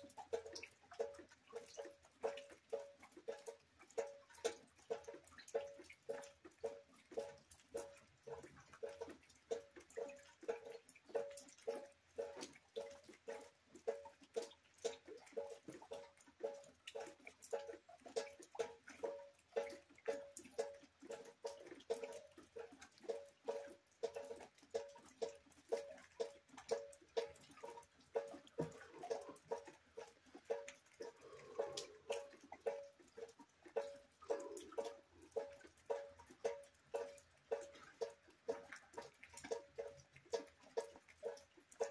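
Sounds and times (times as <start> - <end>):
rain drips plinking into buckets: 0.0 - 41.9.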